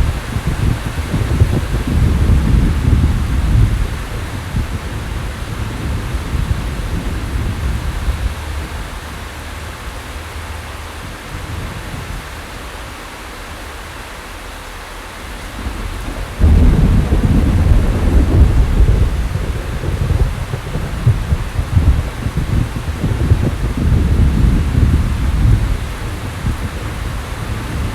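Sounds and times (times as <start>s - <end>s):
loud thunderclap: 0.0s - 12.2s, 15.4s - 27.9s
rolling thunder: 0.0s - 12.8s, 15.2s - 27.9s
rain hiss: 0.0s - 27.9s.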